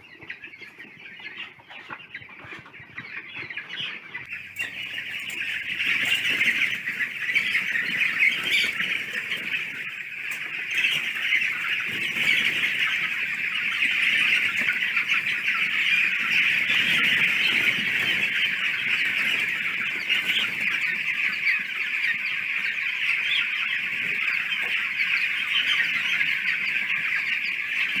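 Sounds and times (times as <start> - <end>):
flock of chickens calling: 0.0 - 28.0.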